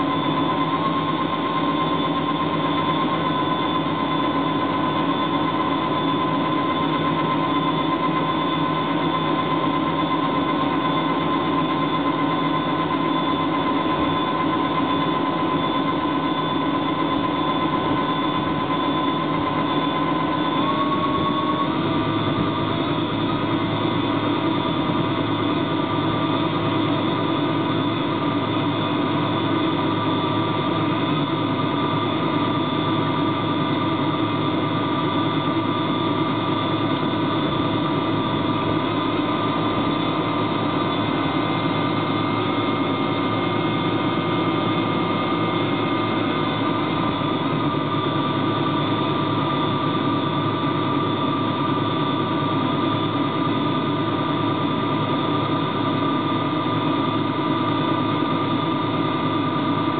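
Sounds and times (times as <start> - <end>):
boat motor droning: 0.0 - 59.9
high whine: 0.0 - 59.9.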